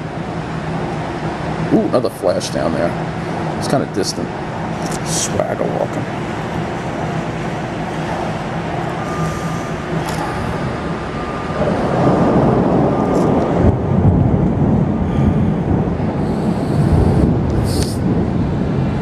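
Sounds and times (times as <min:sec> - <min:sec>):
distant thunder rumble: 0:00.0 - 0:19.0
steady rain: 0:00.0 - 0:19.0.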